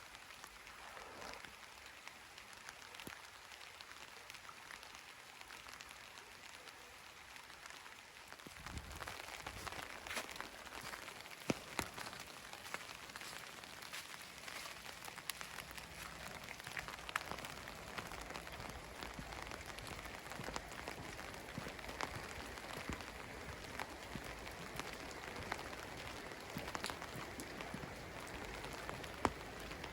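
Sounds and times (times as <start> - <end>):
light irregular ticks and patters: 0.0 - 29.9.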